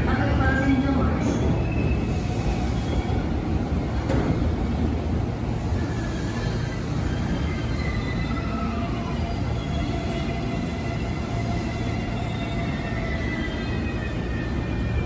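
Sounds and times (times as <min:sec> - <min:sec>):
low rumble of stationary train: 0:00.0 - 0:15.0.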